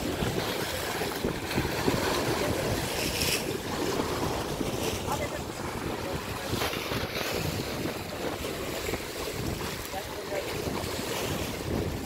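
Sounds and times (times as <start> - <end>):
waves splashing against bank: 0.0 - 12.0
wind on microphone: 0.0 - 12.0.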